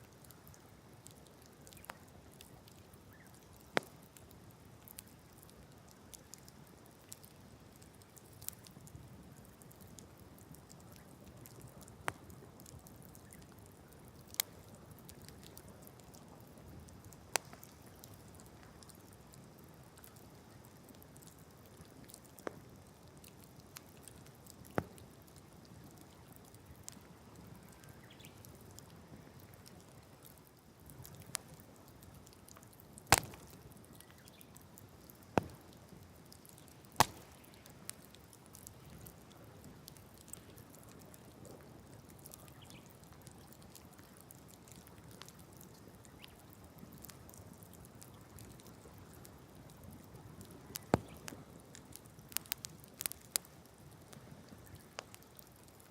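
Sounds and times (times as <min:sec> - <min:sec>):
campfire hiss: 0:00.0 - 0:55.9
wood crackling and popping: 0:00.0 - 0:55.9.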